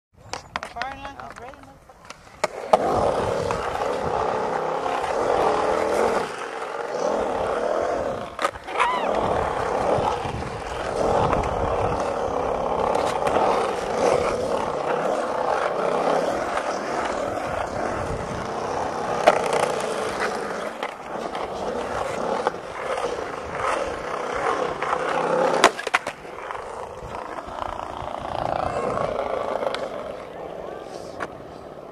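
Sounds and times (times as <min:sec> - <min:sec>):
skateboard clack: 0:00.2 - 0:31.9
skateboard wheels rolling on concrete: 0:00.2 - 0:31.9.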